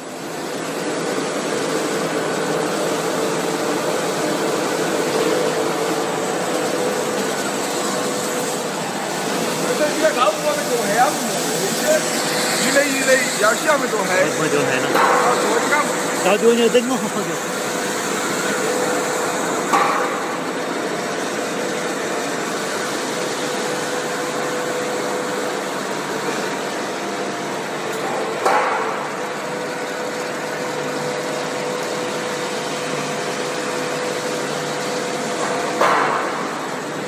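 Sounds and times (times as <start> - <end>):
extrusion machine running: 0.0 - 37.0.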